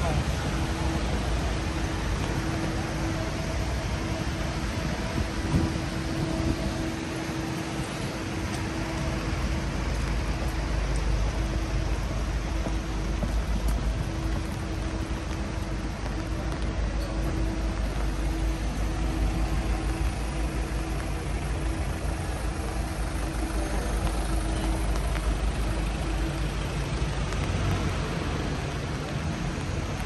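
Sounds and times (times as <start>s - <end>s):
hiss of rain and wet roads: 0.0s - 30.0s
low engine rumble: 0.0s - 30.0s.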